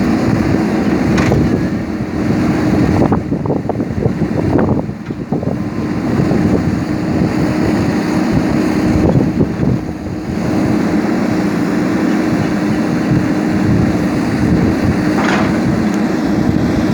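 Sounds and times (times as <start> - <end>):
diesel engine running: 0.0 - 16.9
wind on microphone: 0.0 - 16.9.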